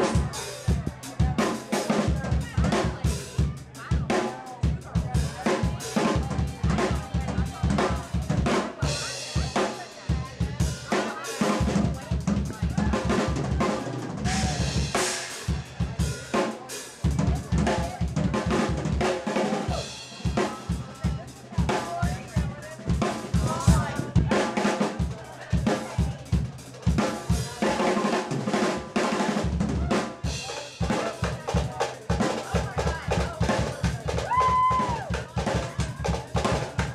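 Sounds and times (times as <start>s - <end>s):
drum kit solo: 0.0s - 36.9s.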